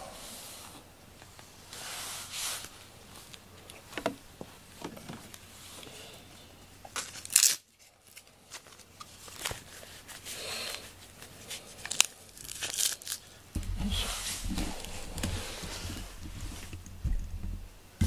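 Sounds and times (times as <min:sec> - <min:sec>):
rubber glove rustling and crinkling: 0:00.0 - 0:18.0.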